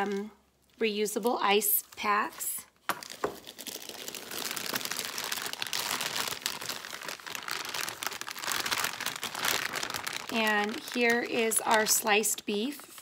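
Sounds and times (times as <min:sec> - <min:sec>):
plastic packaging crinkling: 0:01.1 - 0:13.0.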